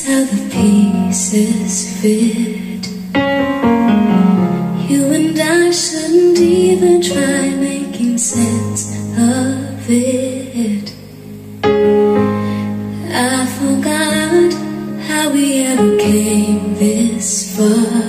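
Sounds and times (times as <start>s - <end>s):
woman singing a ballad: 0.0s - 3.2s, 4.7s - 11.4s, 12.2s - 18.0s.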